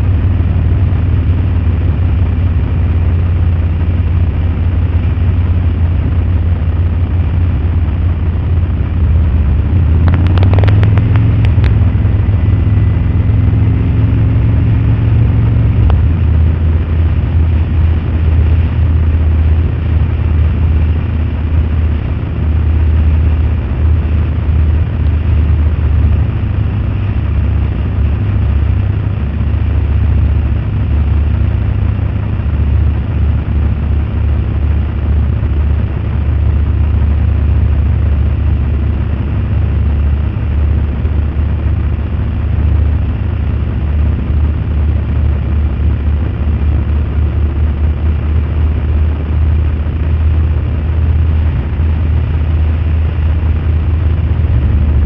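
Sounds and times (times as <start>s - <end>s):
motorcycle engines: 0.0s - 55.0s.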